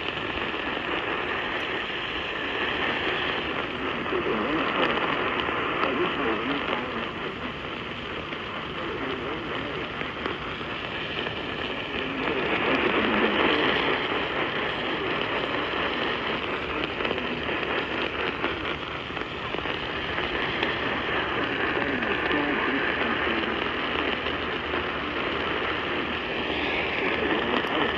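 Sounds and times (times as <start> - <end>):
radio static hiss: 0.0 - 27.9.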